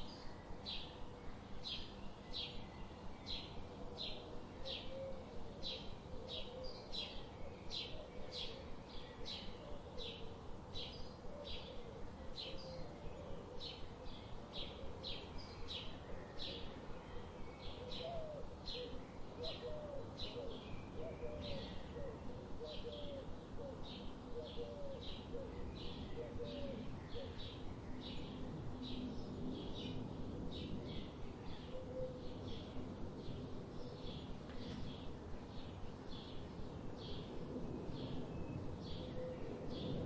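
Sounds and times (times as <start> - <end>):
outdoor background hiss: 0.0 - 40.0.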